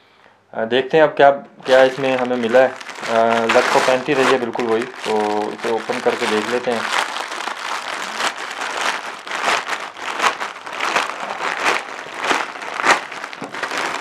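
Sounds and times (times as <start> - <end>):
plastic bag crinkling and tearing: 1.6 - 14.0.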